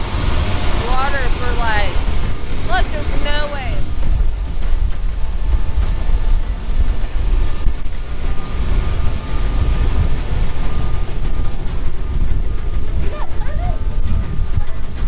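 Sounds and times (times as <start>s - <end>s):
rush of boat wake: 0.0s - 15.0s
wind buffeting microphone: 0.0s - 15.0s.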